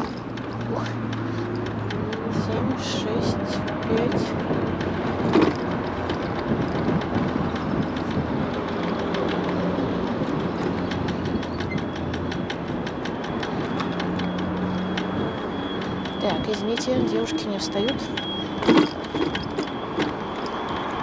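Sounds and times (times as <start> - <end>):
scooter rattling on rough pavement: 0.0 - 21.0
wheel knocking clicks: 0.0 - 21.0.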